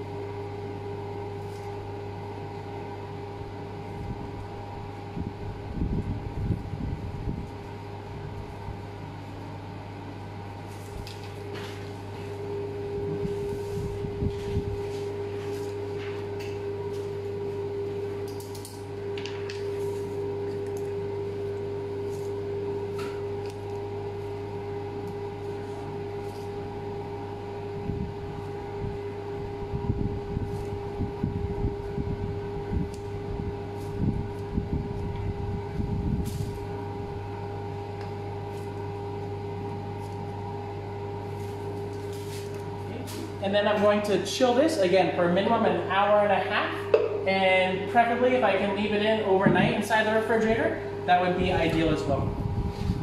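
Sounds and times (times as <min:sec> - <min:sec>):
machine hum with held tones: 0:00.0 - 0:53.0.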